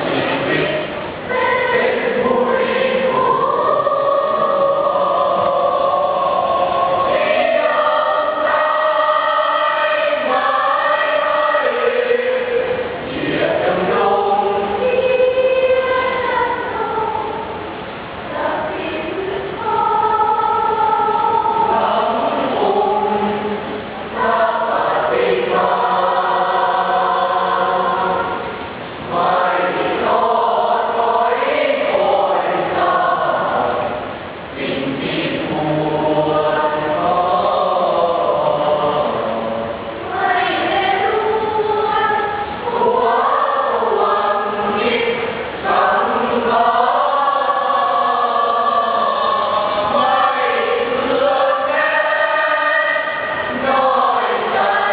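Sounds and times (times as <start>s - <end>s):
choir singing in harmony: 0.0s - 54.9s.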